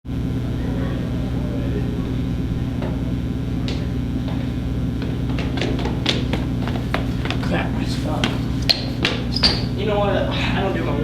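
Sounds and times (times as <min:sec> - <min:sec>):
low mechanical hum: 0:00.1 - 0:11.0.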